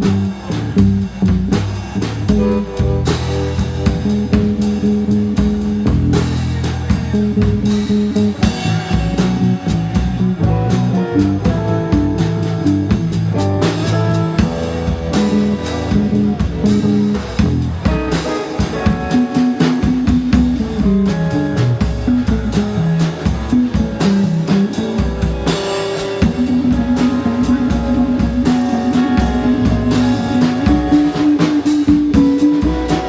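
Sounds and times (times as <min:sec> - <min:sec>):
bass guitar: 0:00.0 - 0:33.0
drum kit steady beat: 0:00.0 - 0:33.0
electric guitar lead: 0:00.0 - 0:33.0.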